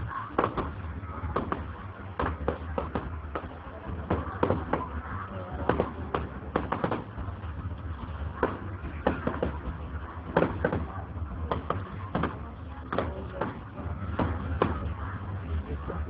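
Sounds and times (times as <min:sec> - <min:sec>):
fireworks bangs and crackles: 0:00.0 - 0:16.0
steady low rumble: 0:00.0 - 0:16.0.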